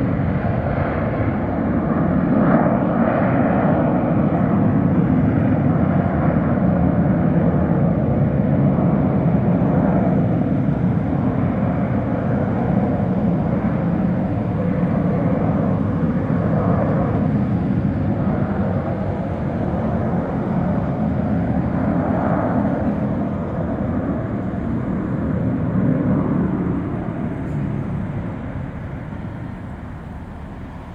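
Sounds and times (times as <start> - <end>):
jet engines roaring on takeoff: 0.0 - 30.9.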